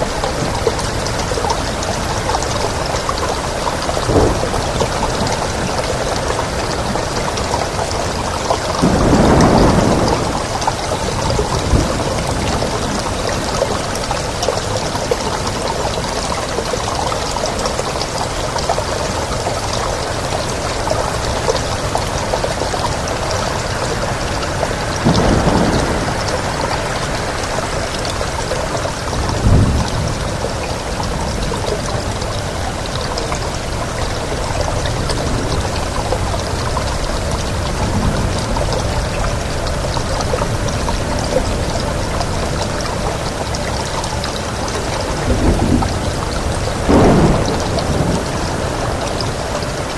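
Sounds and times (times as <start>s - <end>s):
heavy rain: 0.0s - 49.9s
wind: 0.0s - 49.9s.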